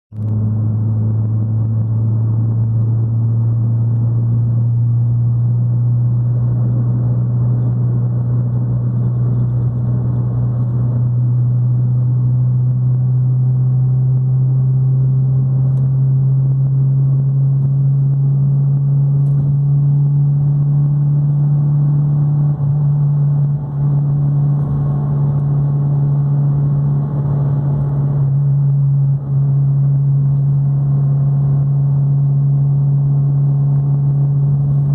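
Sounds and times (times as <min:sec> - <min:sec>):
car engine droning: 0:00.1 - 0:34.9.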